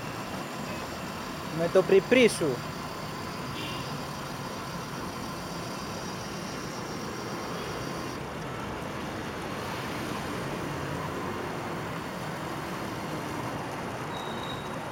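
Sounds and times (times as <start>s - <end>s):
road traffic hum: 0.0s - 14.9s.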